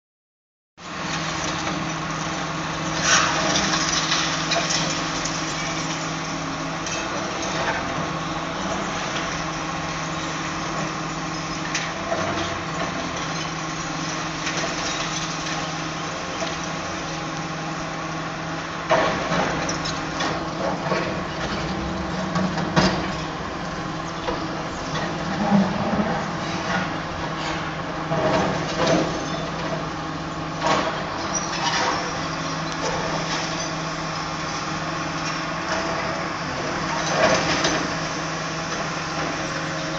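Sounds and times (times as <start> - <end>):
excavator diesel engines running: 0.8 - 39.9.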